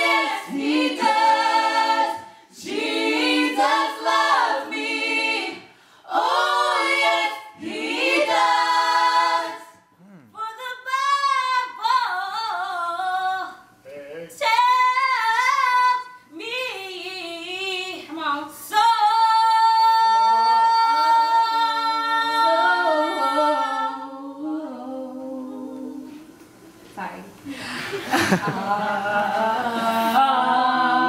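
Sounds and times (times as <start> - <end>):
women singing into microphones: 0.0 - 13.7, 14.4 - 26.5, 28.3 - 31.0.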